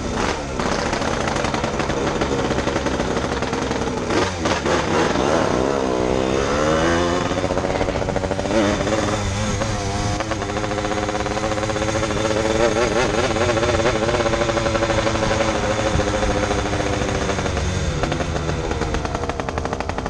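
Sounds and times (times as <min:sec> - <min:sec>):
two-stroke motorcycle engine: 0:00.0 - 0:20.0.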